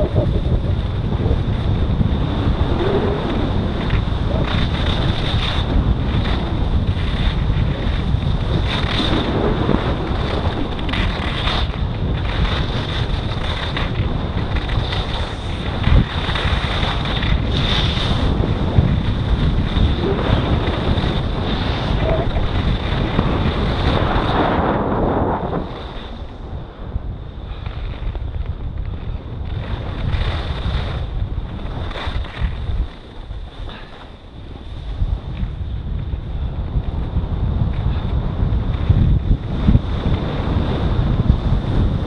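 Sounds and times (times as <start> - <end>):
skis scraping on snow: 0.0 - 26.6, 27.4 - 42.0
wind buffeting microphone: 0.0 - 42.0.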